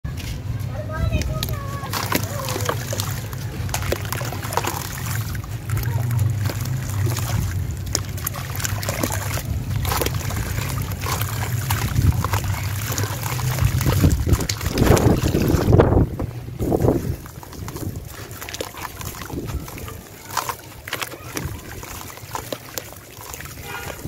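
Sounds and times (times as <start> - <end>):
steady low rumble: 0.1 - 20.8
grit crackling into water: 1.1 - 24.0.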